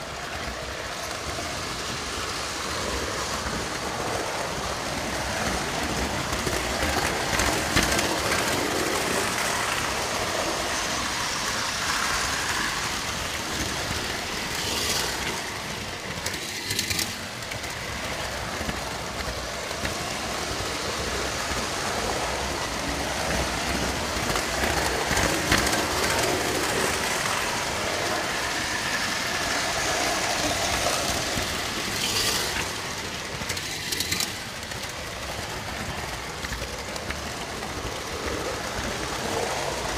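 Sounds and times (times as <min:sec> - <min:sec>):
model train wheels rumbling on rails: 0:00.0 - 0:39.9.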